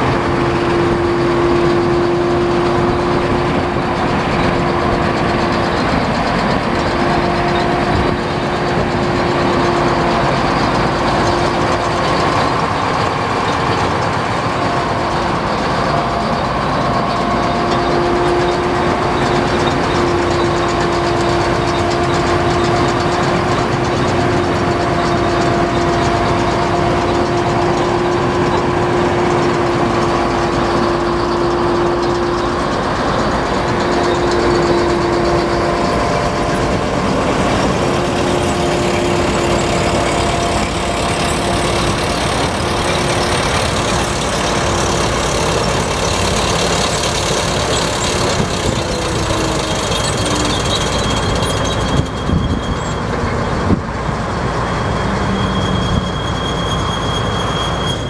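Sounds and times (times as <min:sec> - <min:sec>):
combine harvester running with whine: 0:00.0 - 0:58.0.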